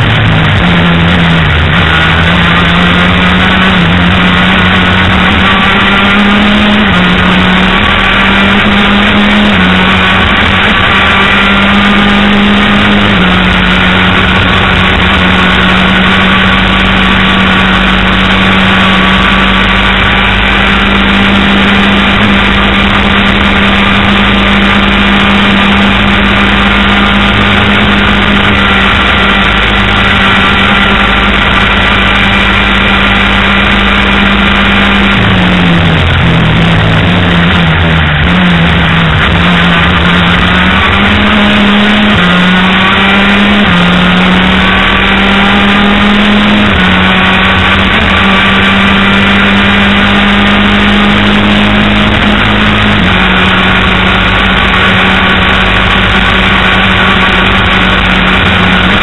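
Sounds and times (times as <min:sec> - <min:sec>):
race car engine: 0:00.0 - 0:59.0
wind and road rush: 0:00.0 - 0:59.0.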